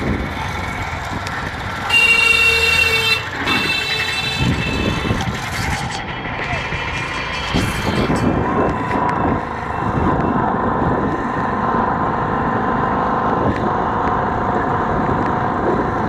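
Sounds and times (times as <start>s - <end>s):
motorcycle engine and road noise: 0.0s - 16.0s.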